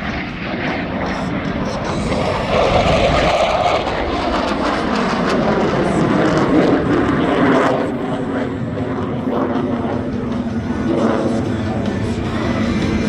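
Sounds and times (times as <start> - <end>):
jet roar overhead: 0.0 - 13.0.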